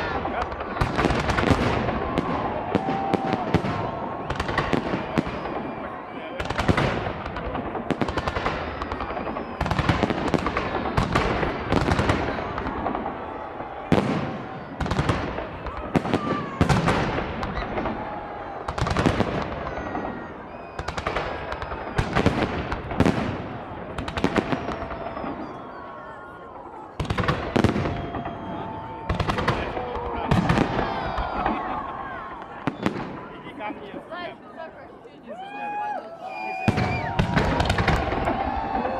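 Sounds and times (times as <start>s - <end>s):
fireworks booming: 0.0s - 26.0s, 26.9s - 33.7s, 36.6s - 38.9s
fireworks crackling: 0.0s - 26.2s, 27.0s - 34.2s, 36.3s - 38.9s.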